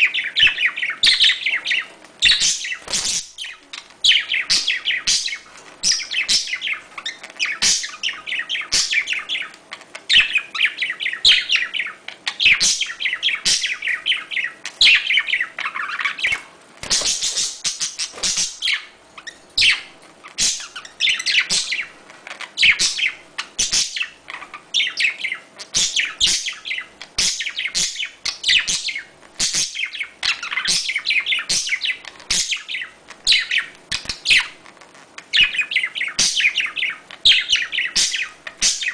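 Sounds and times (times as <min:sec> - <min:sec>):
budgerigars chattering: 0:00.0 - 0:34.6, 0:35.3 - 0:38.9.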